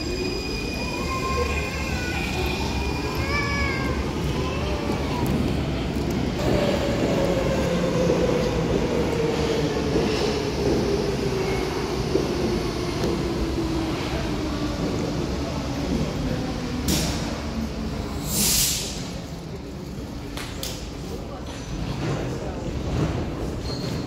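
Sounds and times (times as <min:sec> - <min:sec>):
train arriving and slowing: 0:00.0 - 0:24.0.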